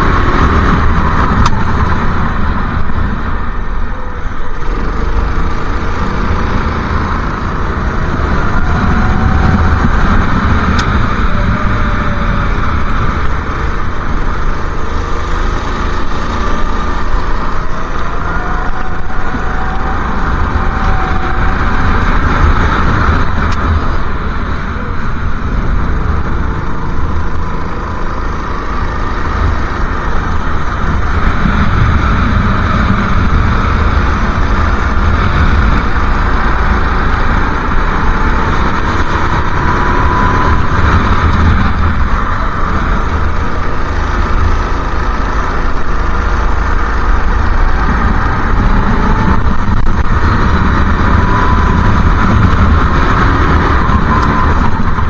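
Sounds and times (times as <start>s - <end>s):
go-kart engine racing: 0.0s - 55.0s
wind buffeting microphone: 0.0s - 55.0s.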